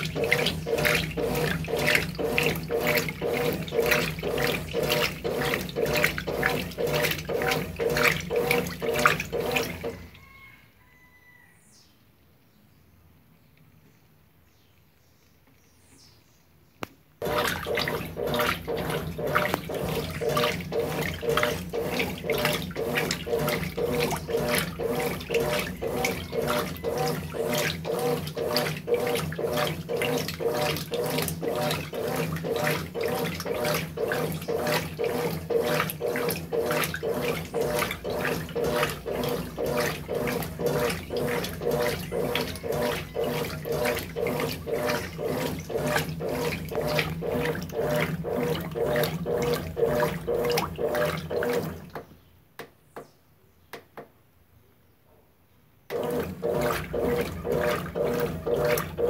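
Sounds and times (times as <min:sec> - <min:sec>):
motor hum: 0:00.0 - 0:10.3, 0:17.2 - 0:52.1, 0:55.9 - 0:59.0
washing machine agitating: 0:00.0 - 0:10.4, 0:17.2 - 0:52.2, 0:55.9 - 0:59.0.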